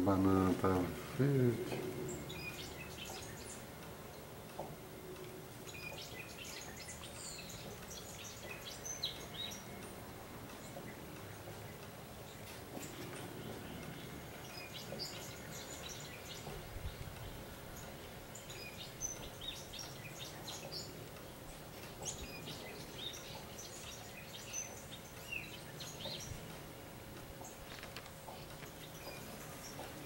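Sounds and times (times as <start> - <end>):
birds chirping: 0.0 - 30.0
low background noise: 0.0 - 30.0.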